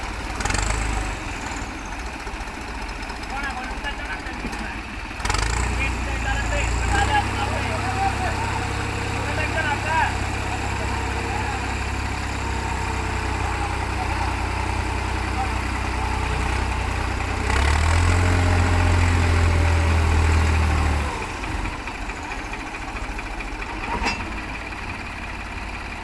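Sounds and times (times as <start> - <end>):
tractor diesel engines under load: 0.0 - 26.0.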